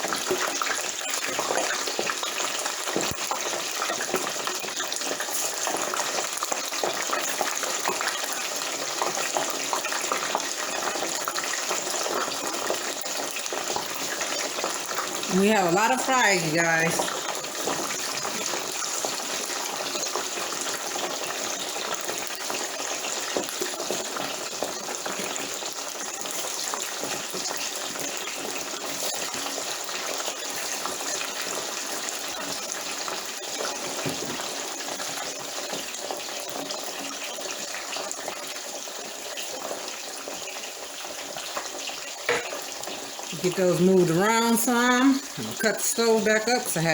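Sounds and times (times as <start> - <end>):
fries sizzling in hot oil: 0.0 - 46.9.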